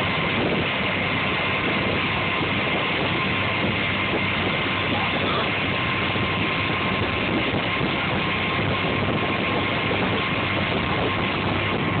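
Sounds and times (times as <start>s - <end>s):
churning wake water: 0.0s - 12.0s
motorboat engine running: 0.0s - 12.0s
wind rushing: 0.0s - 12.0s.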